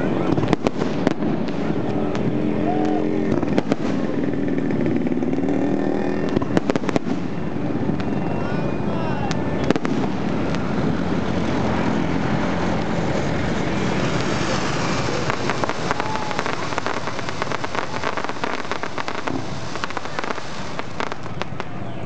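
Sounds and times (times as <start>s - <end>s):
rapid crackles and pops: 0.0s - 8.6s, 9.2s - 22.0s
fireworks bursts: 0.0s - 21.9s.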